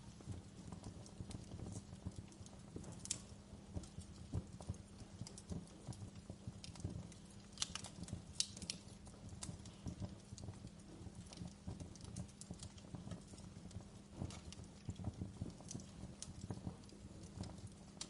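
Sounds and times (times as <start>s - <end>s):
low rumble of burning logs: 0.0s - 18.0s
wood fire crackling and snapping: 0.0s - 18.0s.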